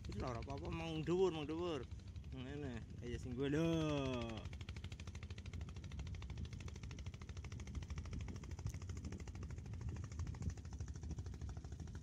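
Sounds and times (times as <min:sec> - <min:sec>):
small engine chugging: 0:00.0 - 0:12.0.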